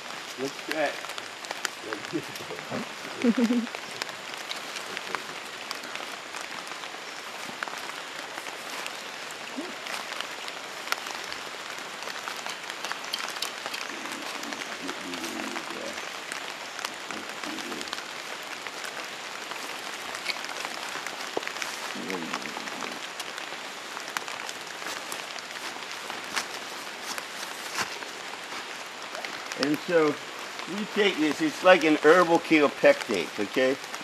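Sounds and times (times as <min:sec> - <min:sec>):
rain falling on foliage: 0:00.0 - 0:34.0.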